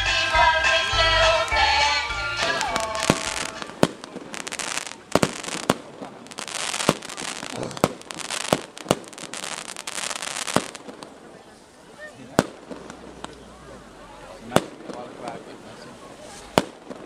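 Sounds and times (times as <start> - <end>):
fireworks crackling hiss: 0.1 - 17.0
fireworks bangs: 0.3 - 11.5, 12.2 - 17.0.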